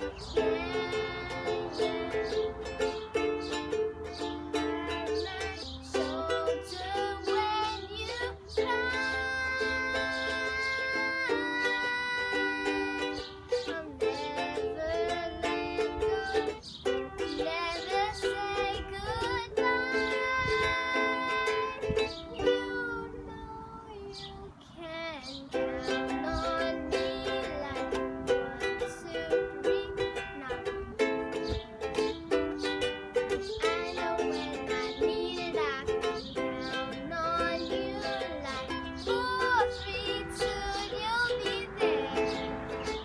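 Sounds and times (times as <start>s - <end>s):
birds chirping: 0.0s - 15.1s, 15.8s - 28.0s, 28.6s - 43.0s
ukulele strumming: 0.0s - 24.4s, 25.3s - 43.0s
girl singing: 0.0s - 43.0s.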